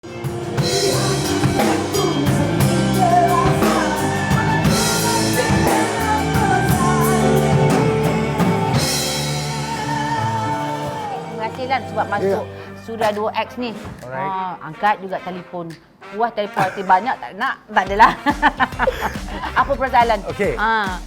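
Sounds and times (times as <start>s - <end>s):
rock band music: 0.0s - 14.2s, 17.9s - 20.9s.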